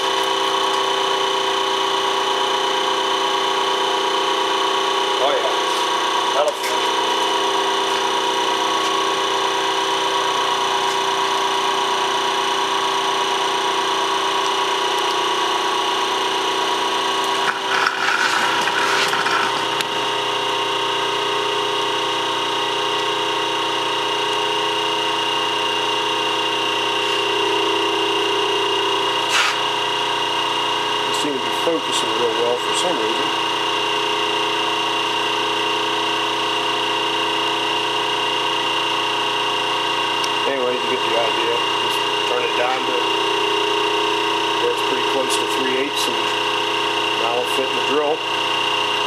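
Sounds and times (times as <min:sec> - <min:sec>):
metal lathe humming: 0:00.0 - 0:49.0.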